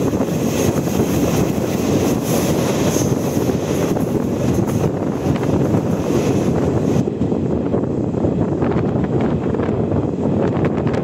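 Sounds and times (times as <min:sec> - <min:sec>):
train rushing and rumbling: 0:00.0 - 0:11.0
wind buffeting microphone: 0:00.0 - 0:11.0.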